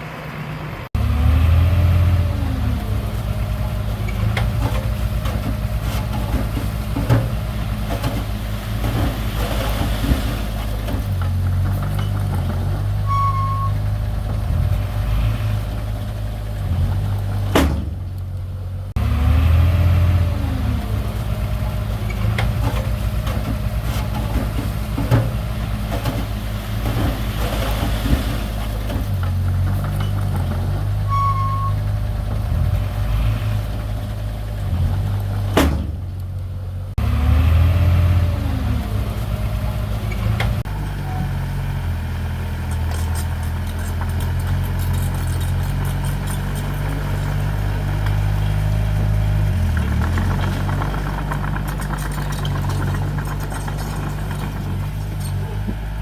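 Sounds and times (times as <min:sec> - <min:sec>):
diesel engine of heavy machinery: 0:00.0 - 0:56.0.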